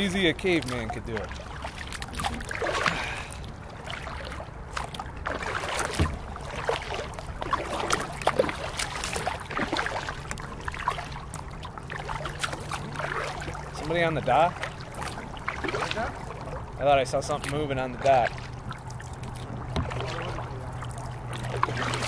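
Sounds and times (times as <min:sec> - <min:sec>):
paddle blades splashing: 0:00.0 - 0:22.0
water dripping off paddle: 0:00.0 - 0:22.0.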